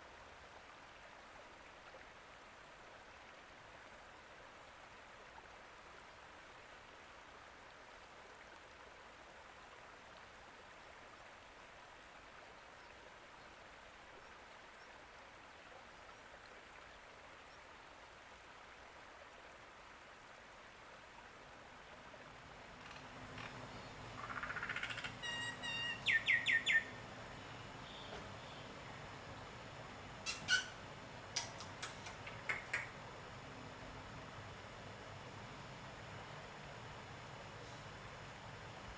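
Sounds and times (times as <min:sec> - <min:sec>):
running water hiss: 0:00.0 - 0:38.9.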